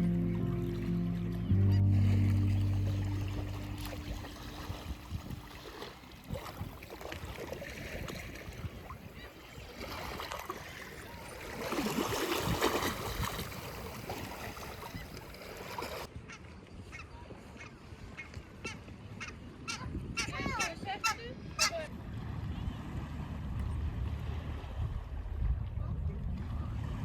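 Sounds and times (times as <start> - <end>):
sea water lapping on shore: 0.7 - 27.0.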